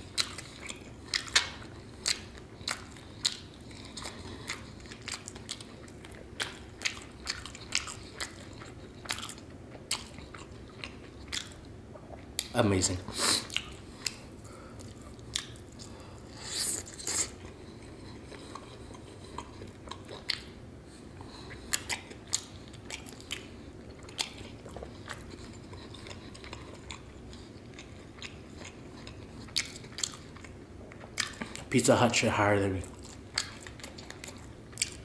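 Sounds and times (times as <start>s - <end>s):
person chewing crunchy food: 0.0s - 31.9s, 32.8s - 35.0s.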